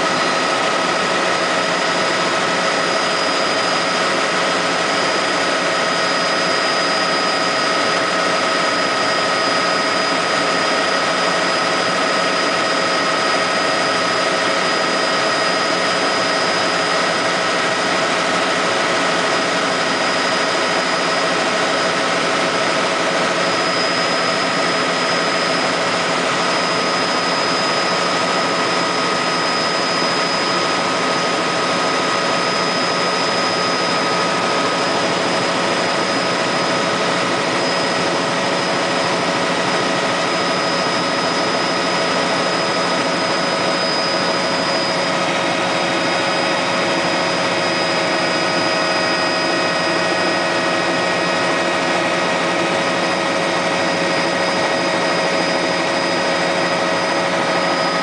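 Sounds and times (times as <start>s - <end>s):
helicopter engine and rotor drone: 0.0s - 58.0s
high whine: 0.0s - 58.0s.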